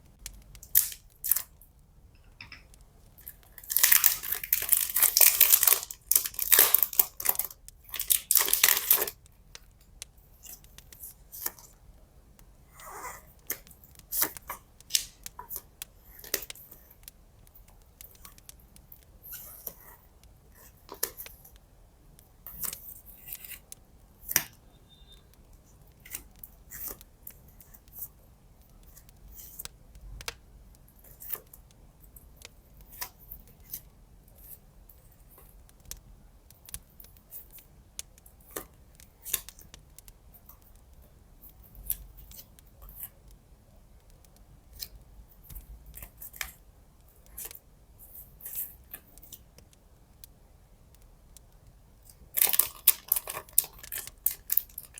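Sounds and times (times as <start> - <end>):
faint low background hum: 0.0 - 54.9.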